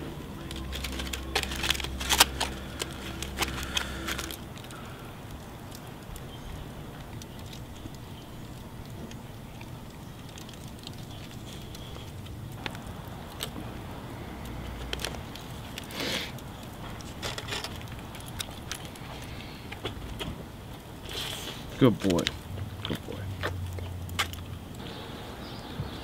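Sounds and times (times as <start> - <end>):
steady low rumble: 0.0 - 21.0
aluminium foil crinkling: 0.0 - 24.8.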